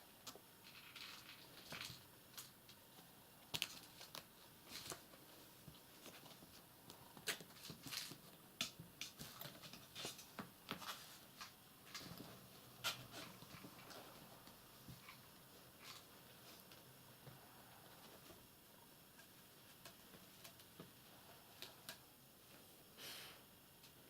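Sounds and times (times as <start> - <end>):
kittens scratching and rustling: 0.2 - 22.6.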